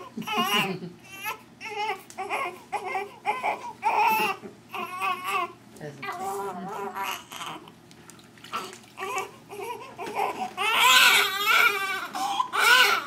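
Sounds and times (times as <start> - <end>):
baby crying: 0.2 - 7.7, 8.6 - 13.0.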